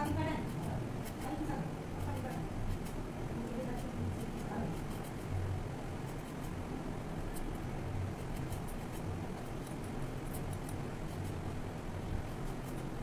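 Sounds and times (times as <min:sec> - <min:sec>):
vegetable peeled on a blade: 0:00.0 - 0:05.4, 0:07.2 - 0:11.5, 0:12.2 - 0:13.0
low hum: 0:00.0 - 0:13.0.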